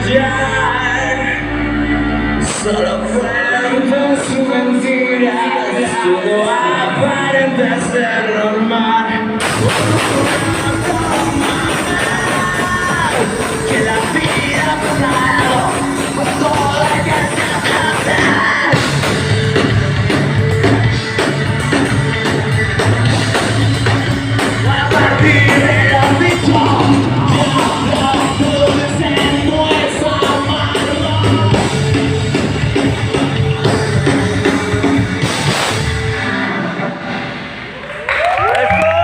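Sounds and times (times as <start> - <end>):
person singing: 0.0 - 35.3
rock band playing live: 0.0 - 39.0.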